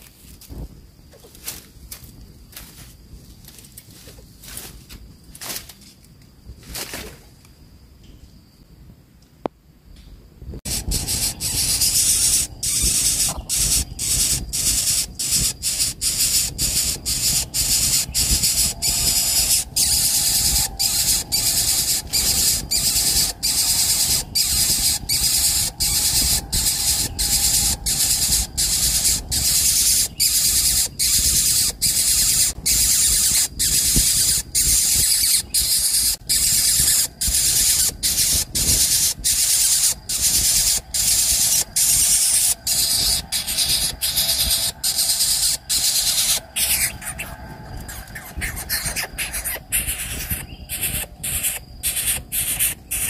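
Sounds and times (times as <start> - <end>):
cicada chorus: 0.0 - 9.0, 9.7 - 53.0.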